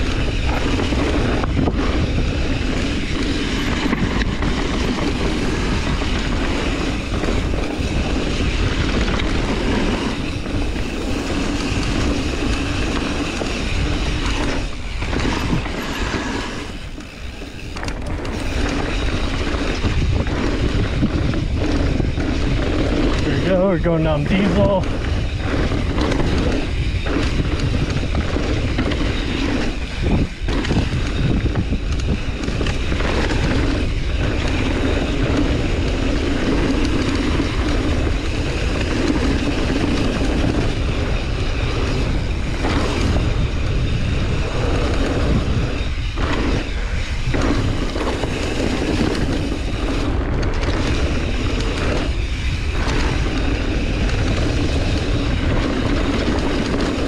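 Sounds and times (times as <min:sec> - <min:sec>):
bike tyres on dirt: 0:00.0 - 0:57.0
wind on microphone: 0:00.0 - 0:57.0.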